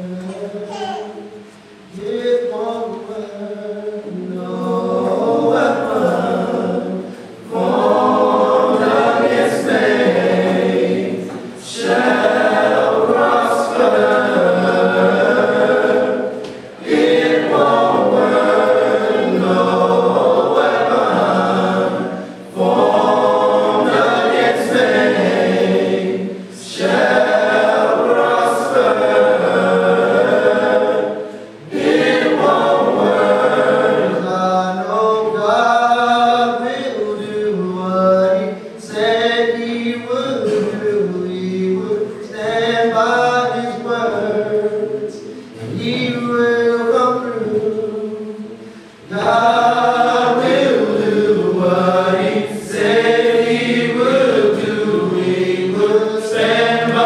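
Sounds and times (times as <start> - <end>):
choir singing: 4.0 - 57.0.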